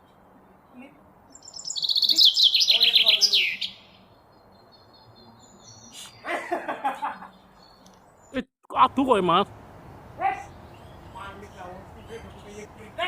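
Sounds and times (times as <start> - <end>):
bird chirping: 0.0 - 8.5, 9.8 - 13.0.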